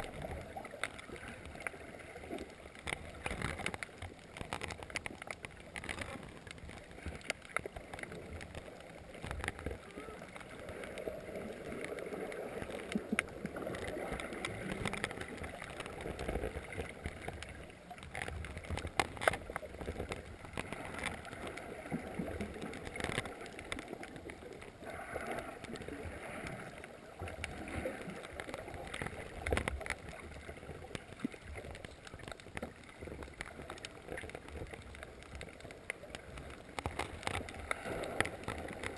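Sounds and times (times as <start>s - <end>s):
muffled underwater water wash: 0.0s - 38.9s
underwater clicks and crackles: 0.0s - 38.9s.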